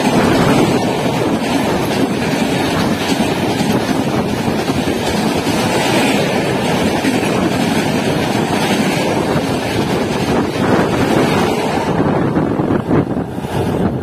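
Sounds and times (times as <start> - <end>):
rush of air from train: 0.0 - 14.0
train wheels rumbling on rails: 0.0 - 14.0.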